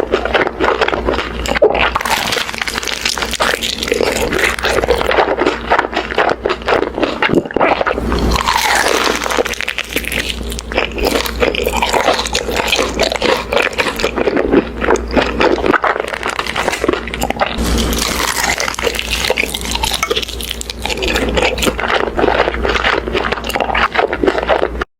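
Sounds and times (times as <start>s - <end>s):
person biting and chewing: 0.0s - 24.9s
wet mouth sounds: 0.0s - 24.9s.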